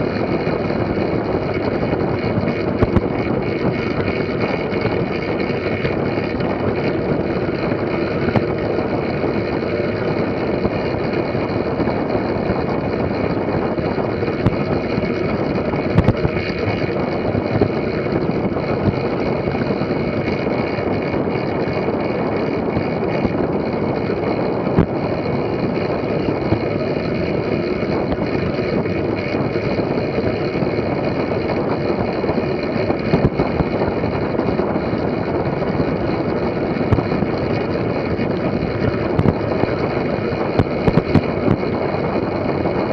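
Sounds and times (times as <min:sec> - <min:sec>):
bike tyres rumbling on wooden track: 0:00.0 - 0:42.9
wind on microphone: 0:00.0 - 0:42.9.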